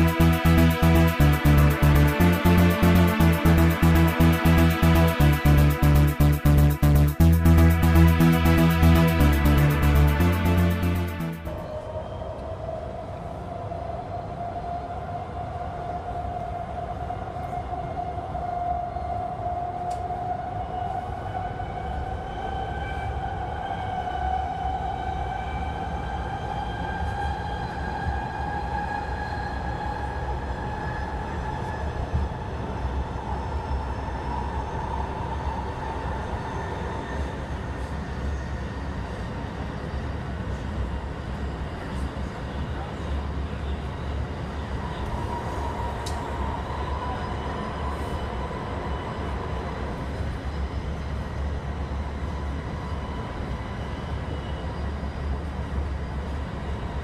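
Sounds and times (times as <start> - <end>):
subway train rumble: 11.0 - 57.0.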